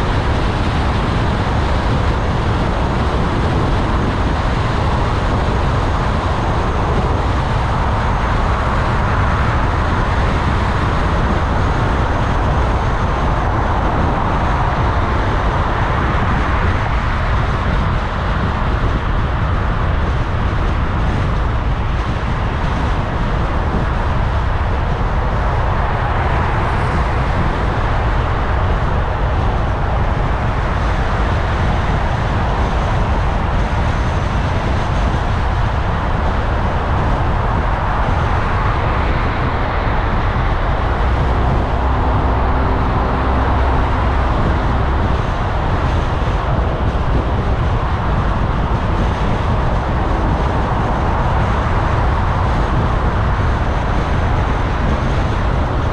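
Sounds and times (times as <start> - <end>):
car driving in traffic: 0.0 - 55.9.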